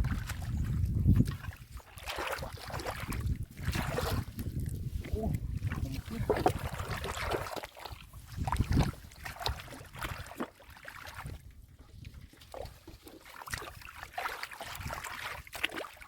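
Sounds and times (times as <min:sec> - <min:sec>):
hands splashing in mud and water: 0:00.0 - 0:16.0.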